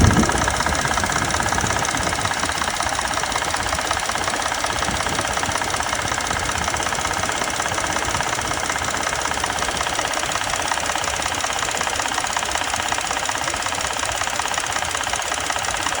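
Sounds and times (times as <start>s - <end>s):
engine rattling clatter: 0.0s - 16.0s.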